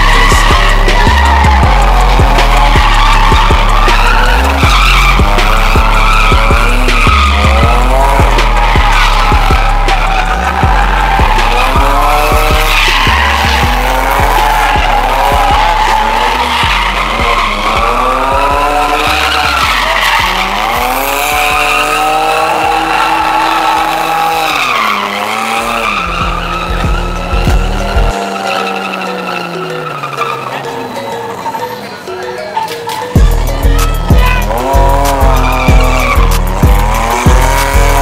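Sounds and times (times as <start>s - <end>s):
music with heavy bass beat: 0.0s - 28.6s, 32.6s - 38.0s
car engine revving: 0.0s - 38.0s
tires squealing: 0.0s - 38.0s.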